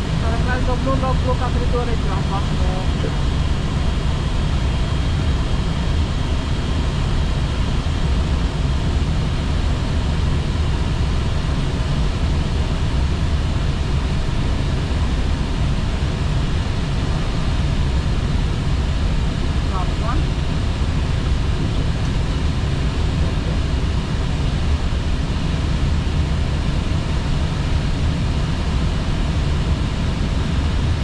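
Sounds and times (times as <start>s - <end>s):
airflow and engine rumble: 0.0s - 31.0s.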